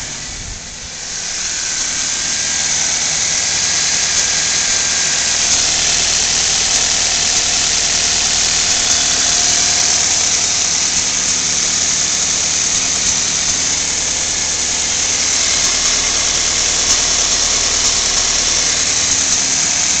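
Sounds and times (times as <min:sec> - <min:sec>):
car engine idling: 0:00.0 - 0:02.2, 0:04.8 - 0:20.0.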